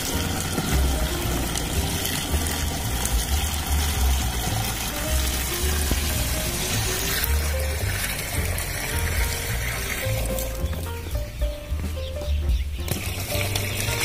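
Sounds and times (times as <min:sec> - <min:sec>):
water pouring into plastic tank: 0:00.0 - 0:10.9, 0:12.8 - 0:14.0
background music: 0:00.0 - 0:14.0.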